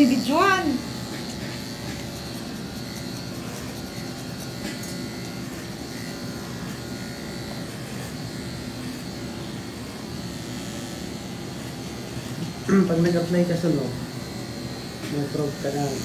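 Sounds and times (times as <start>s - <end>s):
electric pet clippers buzzing: 0.0s - 16.0s.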